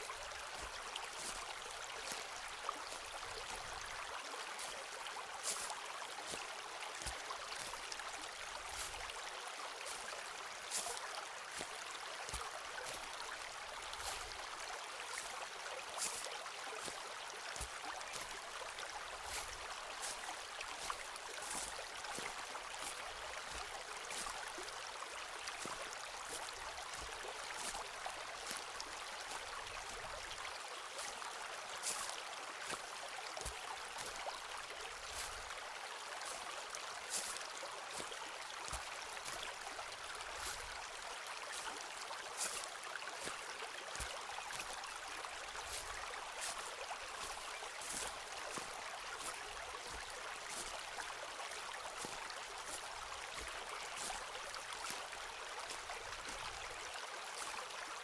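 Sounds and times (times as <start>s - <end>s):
footsteps on forest path: 0.0s - 57.7s
stream flowing: 0.0s - 58.0s.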